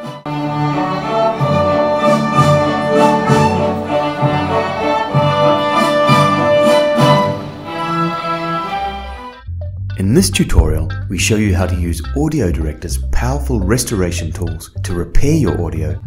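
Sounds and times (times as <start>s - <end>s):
instrumental music with held chords: 0.0s - 16.0s.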